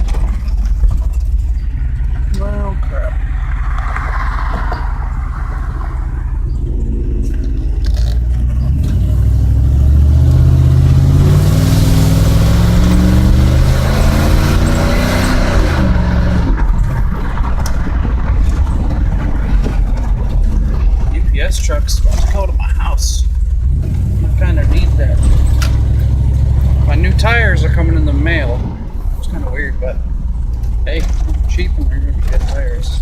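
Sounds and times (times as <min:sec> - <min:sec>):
truck engine accelerating: 0:00.0 - 0:33.0.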